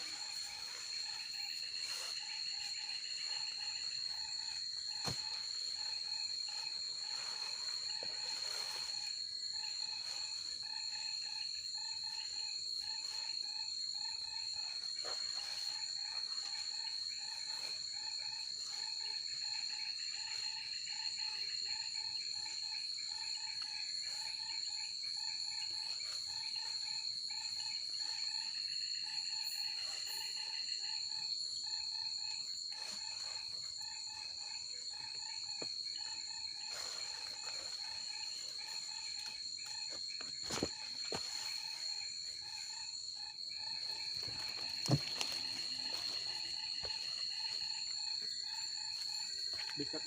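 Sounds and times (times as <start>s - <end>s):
insects trilling: 0.0s - 50.0s
pulsing insect call: 0.0s - 50.0s.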